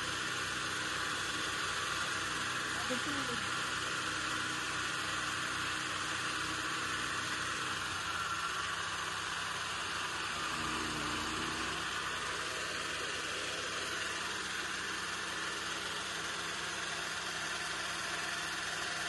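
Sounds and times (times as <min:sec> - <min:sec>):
chaff cutter machine whirring: 0:00.0 - 0:19.0.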